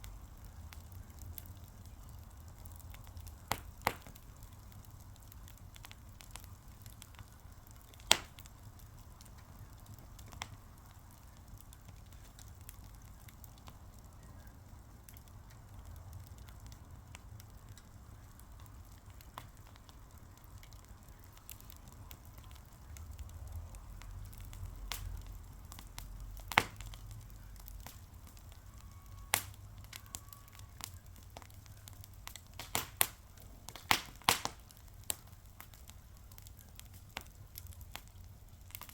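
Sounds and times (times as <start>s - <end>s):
faint low rumble: 0.0s - 33.9s
fire popping: 0.0s - 38.9s
wood fire crackling: 0.0s - 38.9s.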